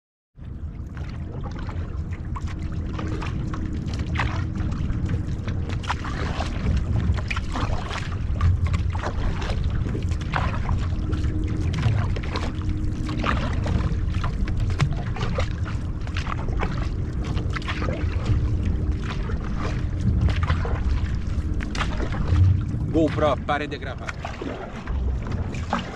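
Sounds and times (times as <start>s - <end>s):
water rushing along canoe: 0.4s - 25.9s
wind on microphone: 0.4s - 25.9s
paddle stroke splashes: 0.8s - 25.9s.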